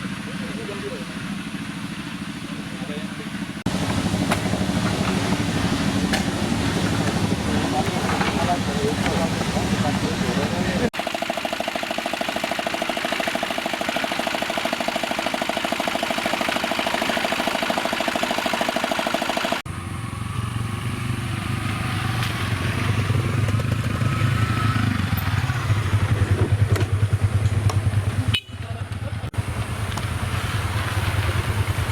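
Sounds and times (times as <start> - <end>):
deeper louder engine: 0.0 - 11.0, 15.6 - 31.9
engine running: 0.0 - 31.9.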